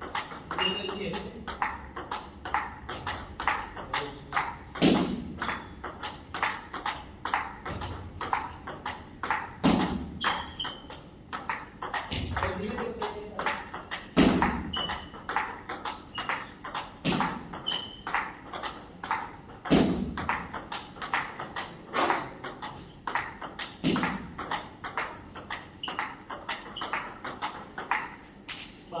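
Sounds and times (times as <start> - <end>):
table tennis ball ticking: 0.0 - 28.2.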